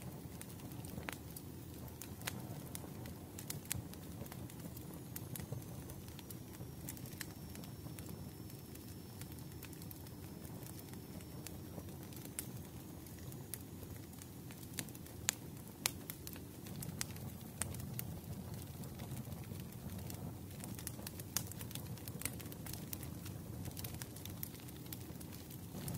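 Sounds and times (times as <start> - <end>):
low fire rumble: 0.0 - 25.9
wood fire crackling: 0.0 - 25.9.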